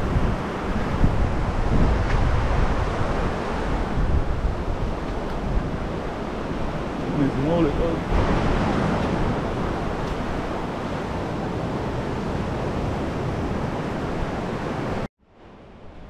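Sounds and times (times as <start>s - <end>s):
wind buffeting microphone: 0.0s - 15.1s
surf washing on beach: 0.0s - 16.0s.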